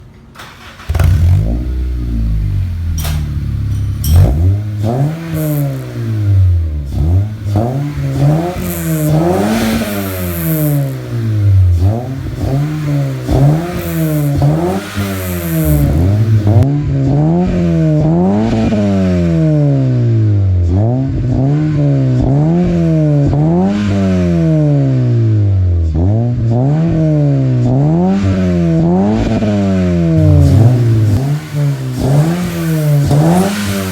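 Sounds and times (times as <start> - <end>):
car engine revving: 0.4 - 33.9.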